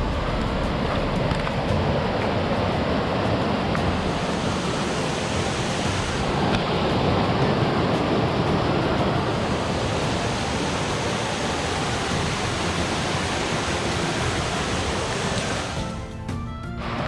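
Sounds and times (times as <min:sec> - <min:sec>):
rushing water: 0:00.0 - 0:16.2.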